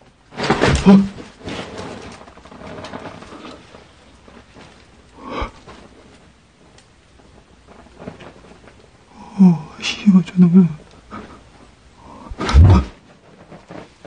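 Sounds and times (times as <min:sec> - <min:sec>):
faint rustling and shuffling: 0:00.0 - 0:14.0.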